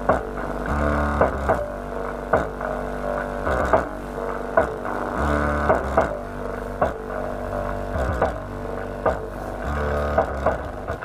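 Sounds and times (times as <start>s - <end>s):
bass-heavy music with drums: 0.0s - 11.0s.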